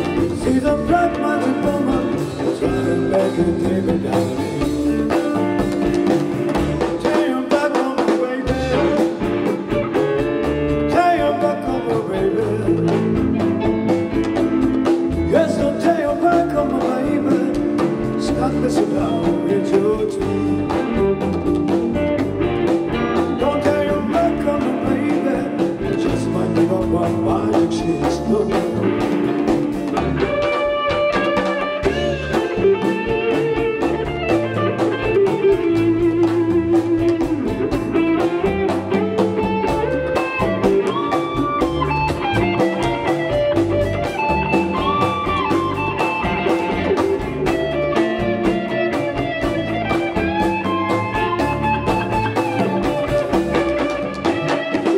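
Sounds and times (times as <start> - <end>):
electric guitar lead line: 0.0 - 54.9
live rock band playing: 0.0 - 54.9.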